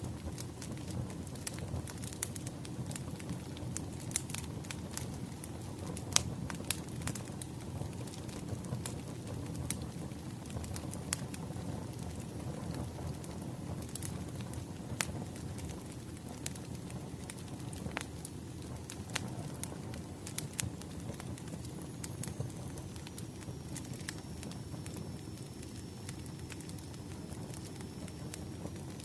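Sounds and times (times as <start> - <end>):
burning logs rumbling: 0.0 - 29.0
fire popping and crackling: 0.0 - 29.0.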